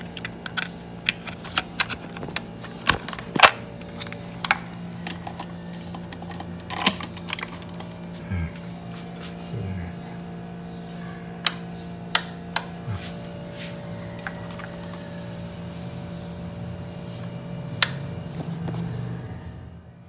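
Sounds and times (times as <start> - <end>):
juicer motor humming: 0.0 - 20.0.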